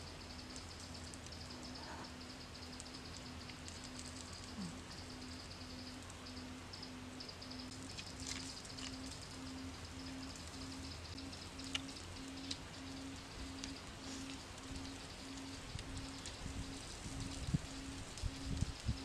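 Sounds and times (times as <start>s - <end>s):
low pulsing tone: 0.0s - 19.0s.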